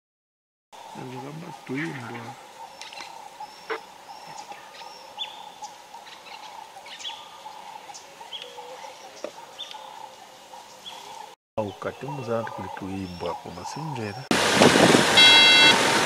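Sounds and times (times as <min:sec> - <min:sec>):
bird chorus: 0:00.8 - 0:14.3.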